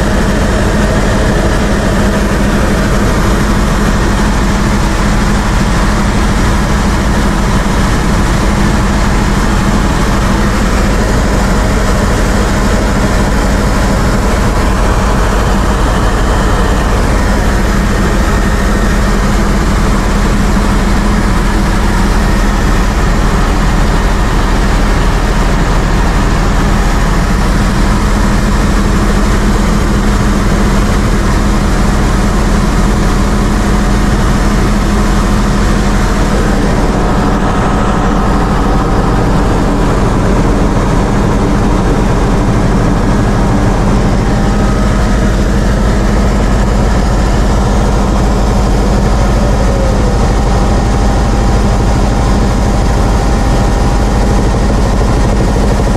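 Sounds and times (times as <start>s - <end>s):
helicopter engine and rotor: 0.0s - 55.9s.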